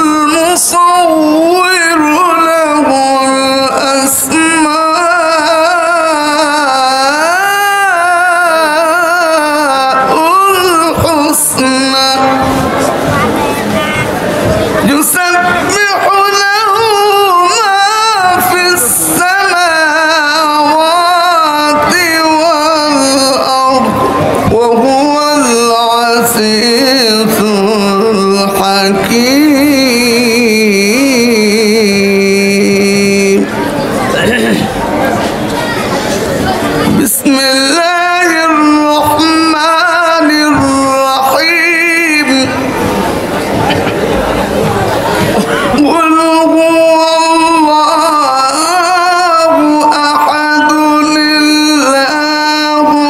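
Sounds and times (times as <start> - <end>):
man chanting into microphone: 0.0 - 13.0, 13.9 - 33.7, 36.8 - 42.9, 45.5 - 53.0
man reciting melodically over loudspeakers: 0.0 - 53.0.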